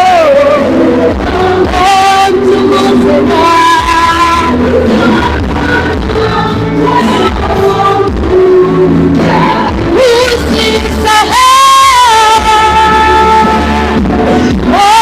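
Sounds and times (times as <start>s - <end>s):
band playing: 0.0s - 15.0s
person singing lead: 0.0s - 15.0s.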